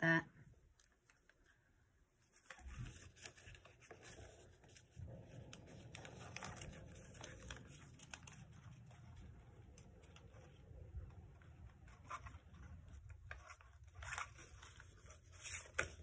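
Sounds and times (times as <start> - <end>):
paper rustling and crinkling: 2.2 - 16.0.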